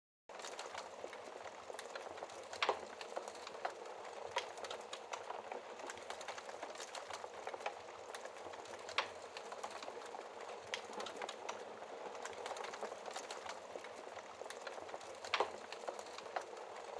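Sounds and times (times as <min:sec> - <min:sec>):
fire crackles and pops: 0:00.3 - 0:16.9
wood fire hissing: 0:00.4 - 0:16.9.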